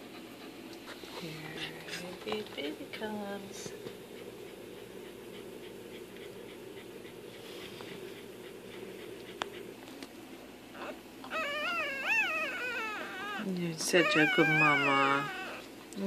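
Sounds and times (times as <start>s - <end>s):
dog panting rapidly: 0.0s - 2.7s, 3.9s - 9.9s, 11.4s - 15.6s.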